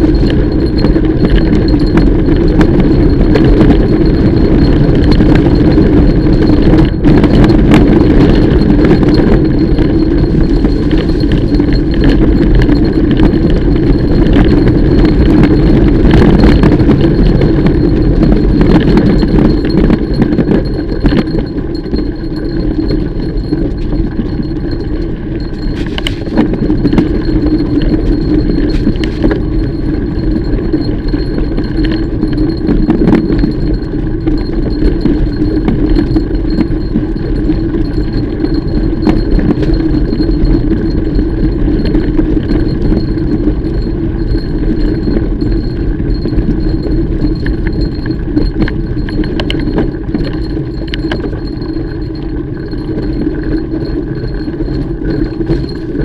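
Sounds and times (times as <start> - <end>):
bike tyres rumbling on dirt: 0.0 - 56.0
chain and frame rattling clicks: 0.0 - 56.0.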